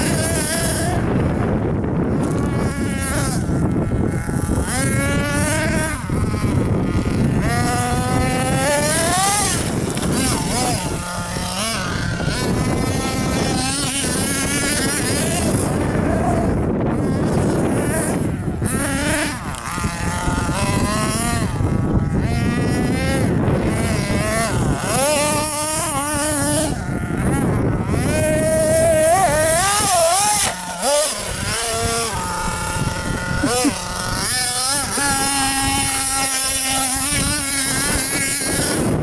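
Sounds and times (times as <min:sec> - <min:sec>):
toy truck engine revving: 0:00.0 - 0:01.5, 0:02.1 - 0:39.0.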